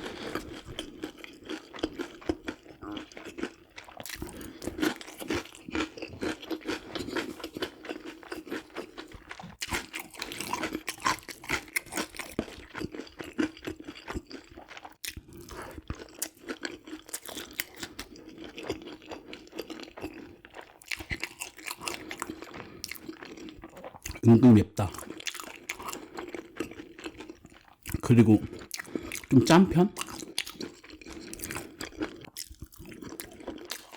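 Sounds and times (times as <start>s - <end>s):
chewing crispy fried chicken: 0.0s - 33.9s.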